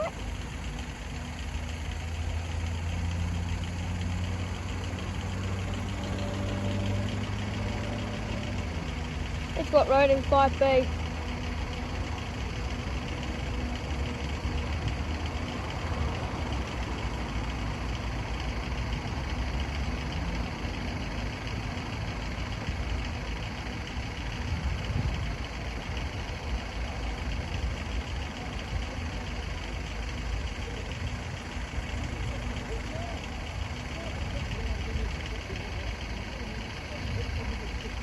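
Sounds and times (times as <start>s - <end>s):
engine idling: 0.0s - 38.0s.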